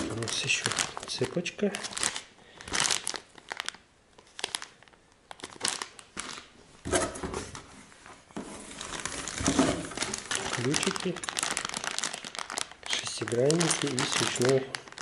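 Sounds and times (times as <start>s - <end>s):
plastic packaging crinkling: 0.0s - 7.2s, 8.4s - 15.0s
cardboard and plastic rustling: 0.0s - 15.0s.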